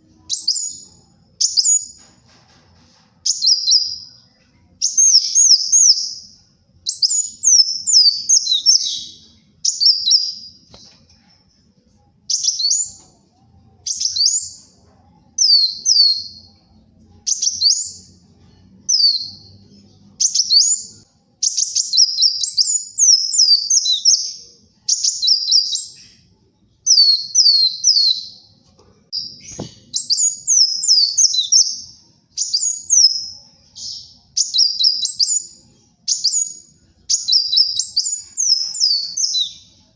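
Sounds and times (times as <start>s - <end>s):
high-pitched bird twittering: 0.3s - 2.0s, 3.3s - 4.2s, 4.8s - 11.0s, 12.3s - 13.1s, 13.8s - 14.8s, 15.4s - 16.5s, 17.2s - 18.2s, 18.9s - 26.2s, 26.8s - 28.5s, 29.2s - 39.7s.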